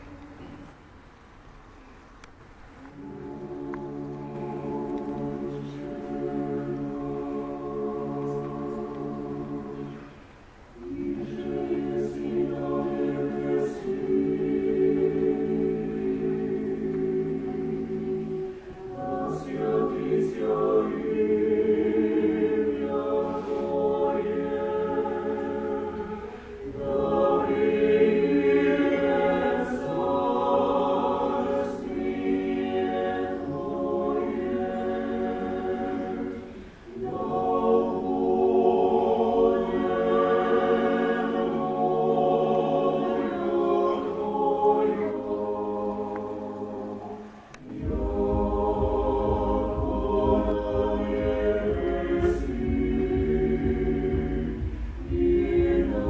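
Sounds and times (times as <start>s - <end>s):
choir chanting a cappella: 2.8s - 56.0s.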